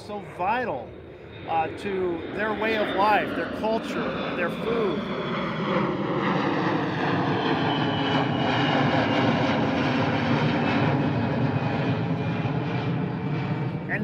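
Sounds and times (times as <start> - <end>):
airplane engine rumble and whine: 0.0 - 14.0.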